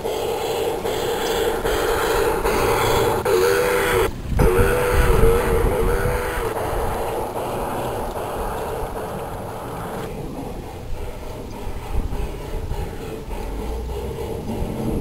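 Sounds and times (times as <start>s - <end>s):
model train cars rolling on track: 0.0s - 15.0s
wind on microphone: 0.0s - 15.0s.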